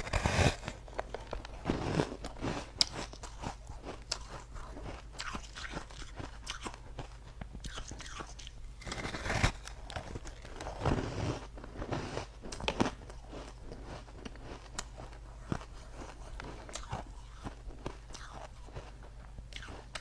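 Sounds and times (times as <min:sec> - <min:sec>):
person crunching ice: 0:00.0 - 0:06.3, 0:08.8 - 0:18.9.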